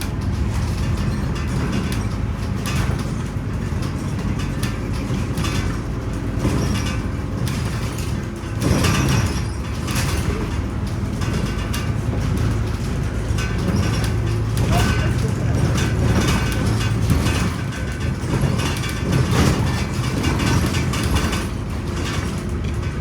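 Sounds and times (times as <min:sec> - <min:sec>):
bus engine droning: 0:00.0 - 0:23.0
road noise: 0:00.0 - 0:23.0.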